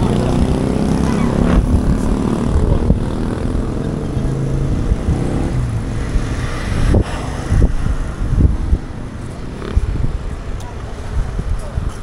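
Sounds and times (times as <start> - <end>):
motorcycle engine passing: 0.0 - 10.2
street traffic: 0.0 - 12.0.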